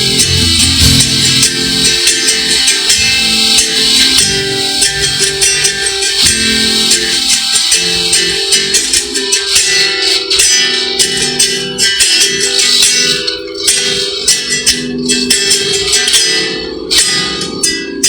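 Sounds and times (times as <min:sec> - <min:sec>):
steady percussive beat: 0:00.0 - 0:17.8
plucked guitar: 0:00.0 - 0:18.0.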